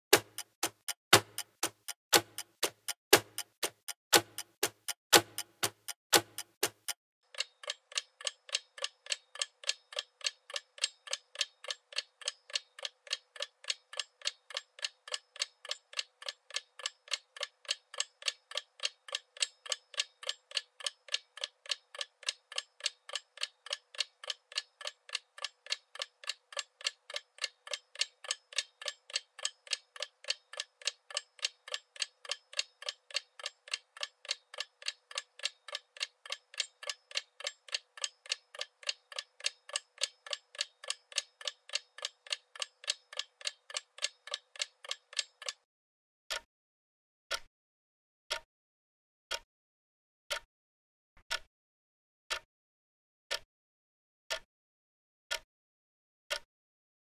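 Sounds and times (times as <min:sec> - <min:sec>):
clock ticking: 0:00.1 - 0:45.7, 0:51.2 - 0:51.5.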